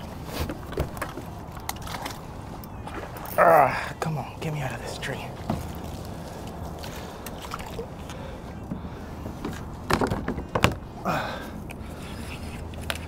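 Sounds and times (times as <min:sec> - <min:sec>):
low rumble of wind and water: 0:00.0 - 0:13.0.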